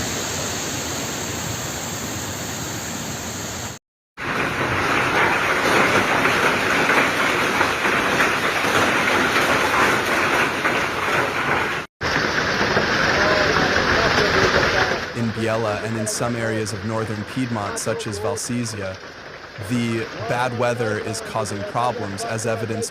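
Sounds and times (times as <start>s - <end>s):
heavy rain rushing: 3.6s - 22.9s
hail pelting down: 4.2s - 22.9s.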